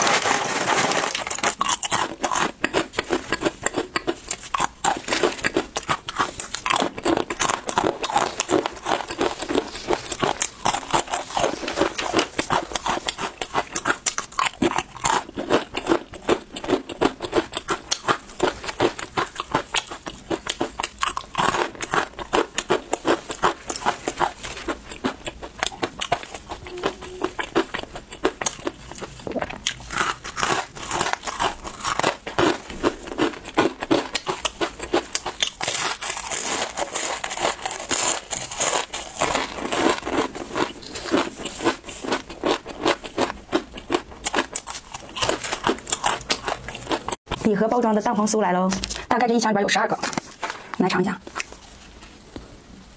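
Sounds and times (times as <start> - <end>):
chips crunching while chewed: 0.0 - 47.2.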